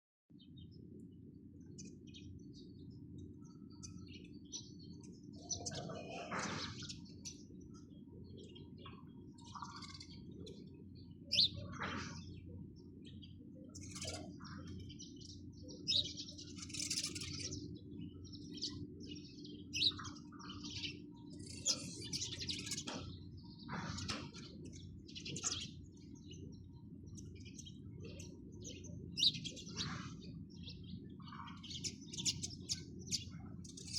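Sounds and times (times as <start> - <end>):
sparrows chirping: 0.3 - 33.9.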